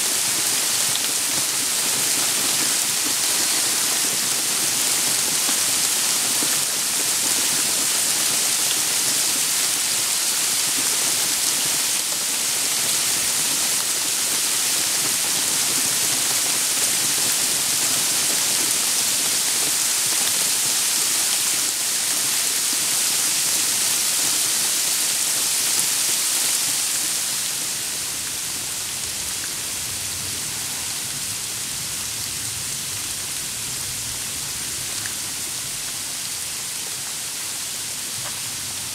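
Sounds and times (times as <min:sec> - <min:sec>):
sleet and rain on leaves: 0:00.0 - 0:38.9.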